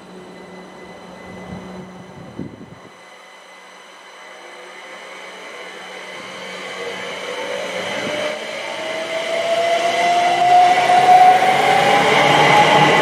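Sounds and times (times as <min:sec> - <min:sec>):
electric train motor whine: 0:00.0 - 0:13.0.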